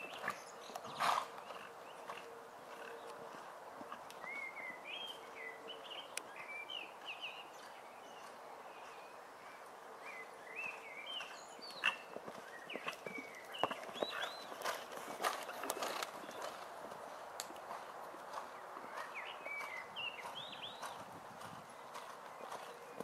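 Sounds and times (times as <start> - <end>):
outdoor background noise: 0.0 - 23.0
small birds chirping: 0.0 - 23.0.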